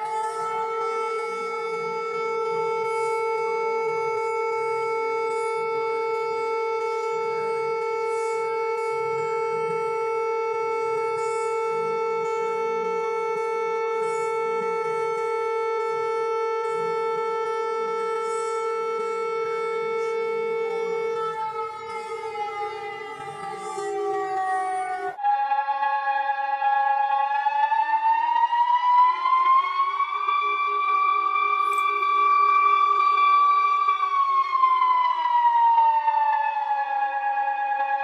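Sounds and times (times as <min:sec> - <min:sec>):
low electronic alarm tone: 0:00.0 - 0:25.2, 0:29.2 - 0:37.4.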